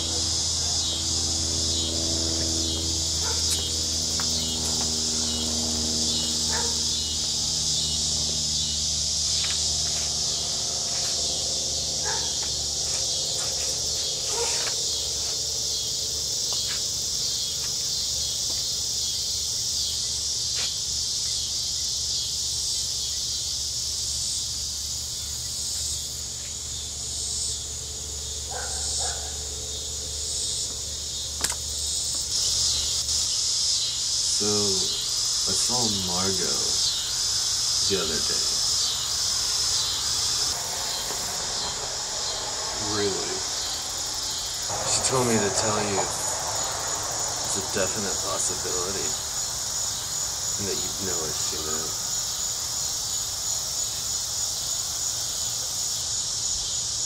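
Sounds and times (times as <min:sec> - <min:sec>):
crickets and insects trilling: 0:00.0 - 0:57.0.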